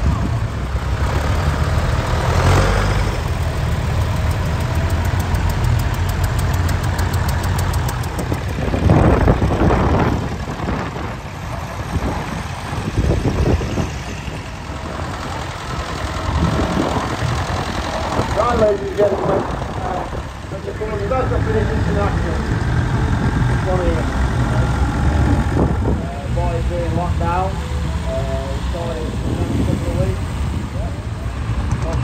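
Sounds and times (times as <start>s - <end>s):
tractor engines running slowly: 0.0s - 32.0s.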